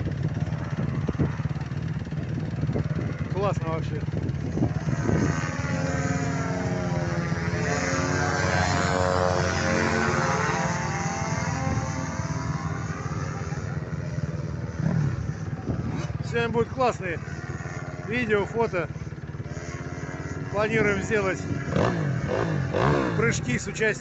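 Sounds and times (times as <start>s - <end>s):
paramotor engine flying past: 0.0s - 24.0s.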